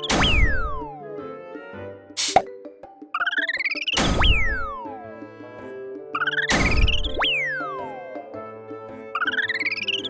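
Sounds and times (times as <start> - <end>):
light children's music: 0.1 - 10.0.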